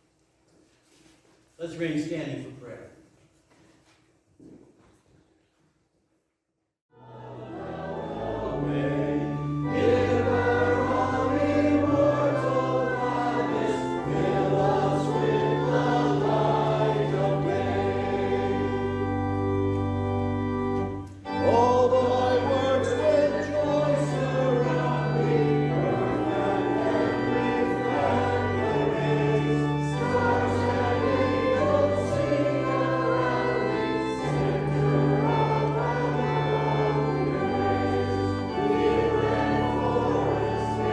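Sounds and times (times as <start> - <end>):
choir singing a hymn: 6.9 - 40.9
organ accompaniment: 6.9 - 40.9.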